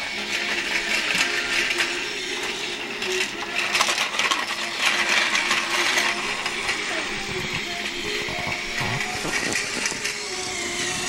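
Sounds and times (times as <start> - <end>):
toy trains whirring on track: 0.0 - 11.0
plastic parts clicking: 0.2 - 11.0.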